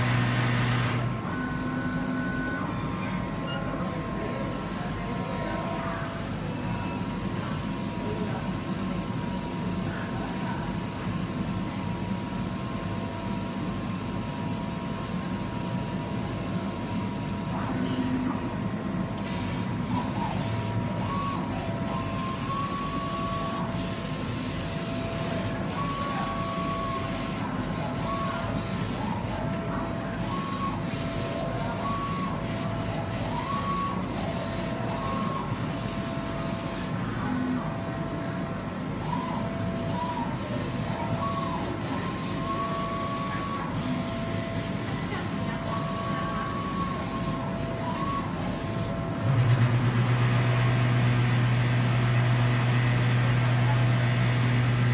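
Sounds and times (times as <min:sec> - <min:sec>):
laser cutter motors whining: 0:00.9 - 0:11.4, 0:14.0 - 0:38.2, 0:38.9 - 0:54.9.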